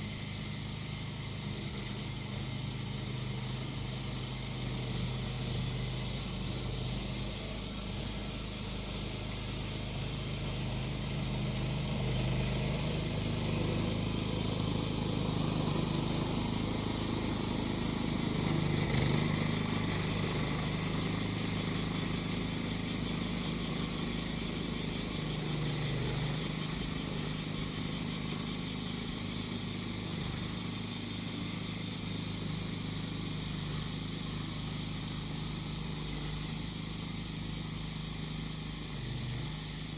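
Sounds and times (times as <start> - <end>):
cicadas droning: 0.0 - 39.9
lawn mower engine running: 0.0 - 39.9.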